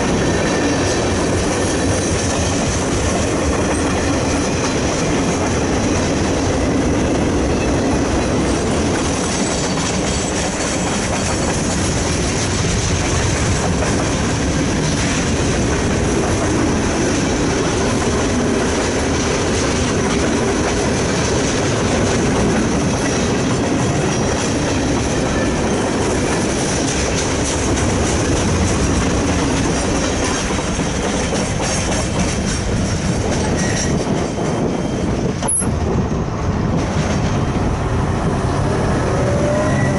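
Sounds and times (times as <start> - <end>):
freight train wheels clacking: 0.0 - 39.7.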